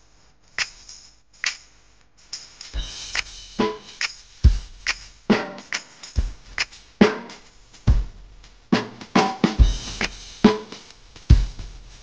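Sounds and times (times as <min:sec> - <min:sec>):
background music with drum beat: 0:00.4 - 0:12.0.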